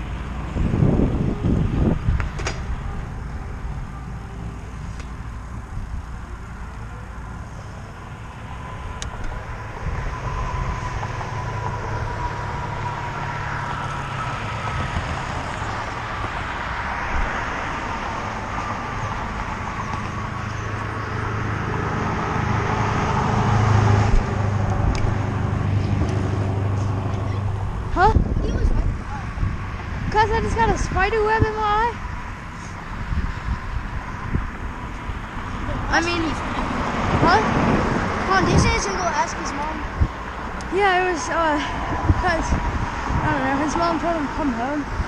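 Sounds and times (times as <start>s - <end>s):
road traffic rumble: 0.0s - 45.0s.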